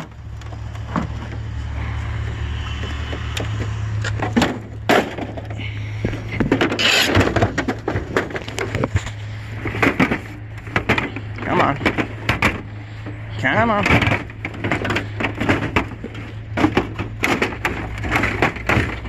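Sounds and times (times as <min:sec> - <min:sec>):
hard plastic items clattering: 0:00.0 - 0:01.6, 0:02.7 - 0:19.0
pickup truck engine idling: 0:00.0 - 0:19.0.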